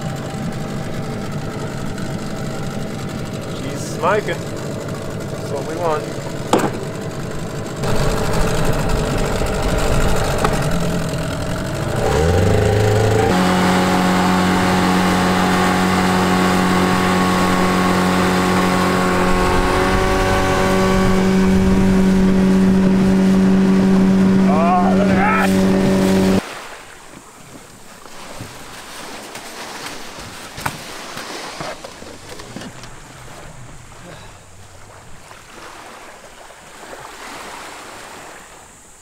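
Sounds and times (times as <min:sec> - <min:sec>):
small outboard motor revving: 0:00.0 - 0:26.6, 0:30.8 - 0:38.8.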